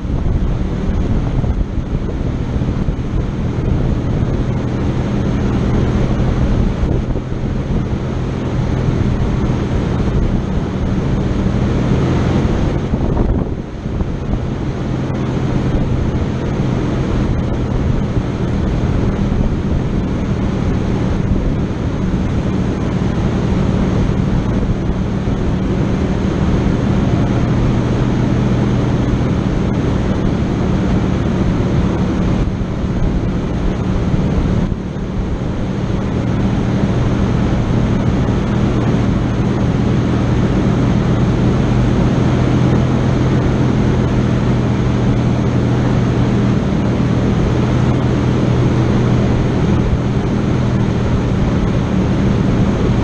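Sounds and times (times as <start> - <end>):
dense noisy rumble: 0.0 - 53.0
vehicle engine running: 0.0 - 53.0.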